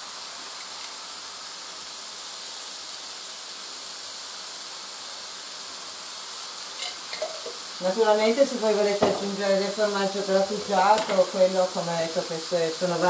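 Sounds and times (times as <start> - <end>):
squash frying in a pan: 0.0 - 13.0.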